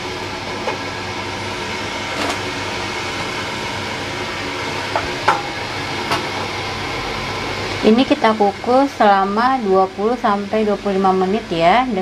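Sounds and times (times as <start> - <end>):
steamer pot hissing: 0.0 - 12.0.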